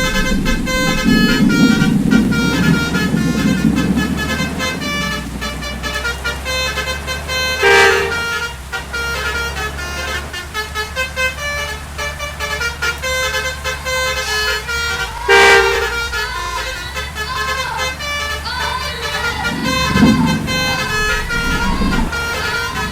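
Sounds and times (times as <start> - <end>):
bus engine running: 0.0 - 22.9
loud short horn blasts: 0.0 - 22.9
multi-tone bus horn tune: 0.0 - 22.9.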